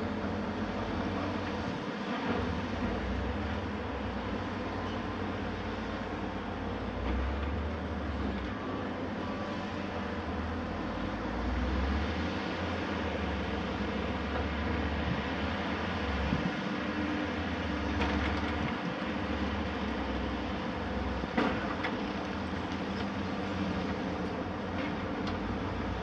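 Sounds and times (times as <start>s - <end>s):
heavy machinery diesel rumble: 0.0s - 26.0s.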